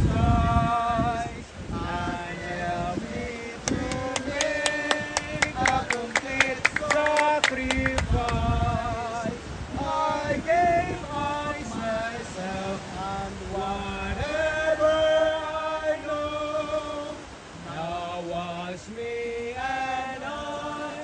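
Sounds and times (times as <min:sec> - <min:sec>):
group singing a hymn: 0:00.0 - 0:21.0.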